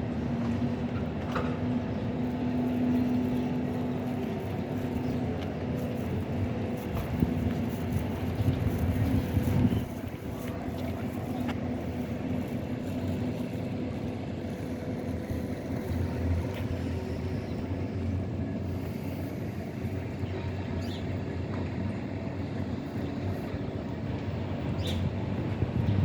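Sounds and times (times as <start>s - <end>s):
faint constant hum: 0.0s - 26.0s
tram rumbling: 0.0s - 26.0s.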